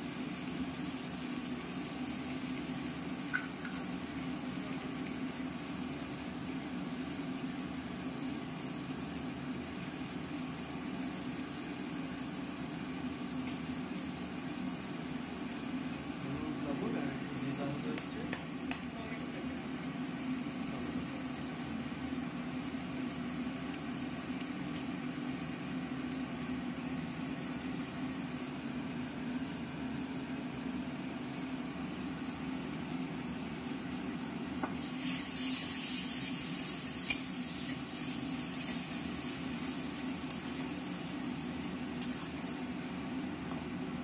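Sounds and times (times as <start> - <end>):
food sizzling in oil: 0.0 - 44.0.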